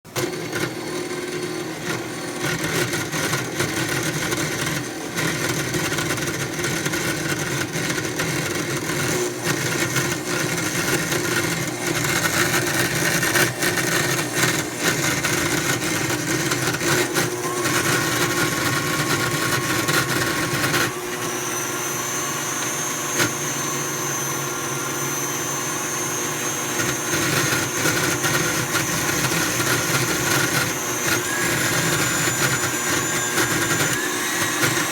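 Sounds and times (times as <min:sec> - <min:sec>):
stand mixer grinding: 0:00.0 - 0:34.9.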